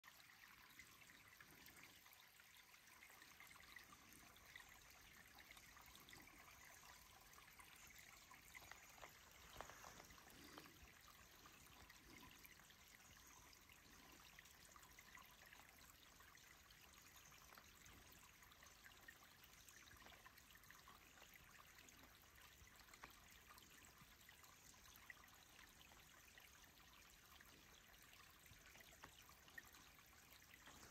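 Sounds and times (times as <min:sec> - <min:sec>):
brook trickling over stones: 0:00.0 - 0:30.9.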